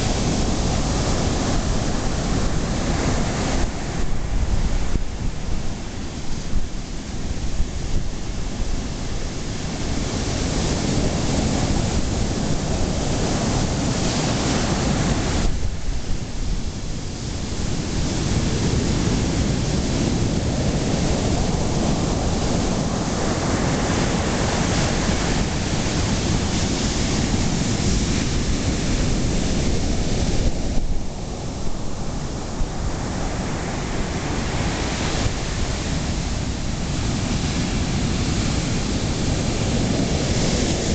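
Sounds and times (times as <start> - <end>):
ocean surf breaking: 0.0 - 40.9
wind buffeting microphone: 0.0 - 40.9.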